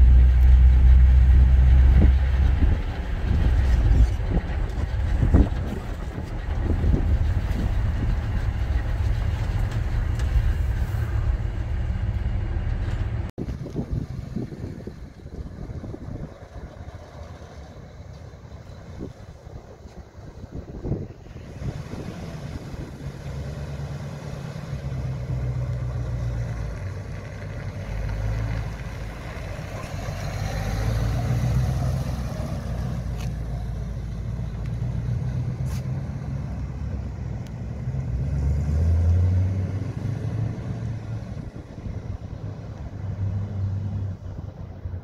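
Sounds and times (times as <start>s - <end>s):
truck engine driving past: 0.0s - 45.0s.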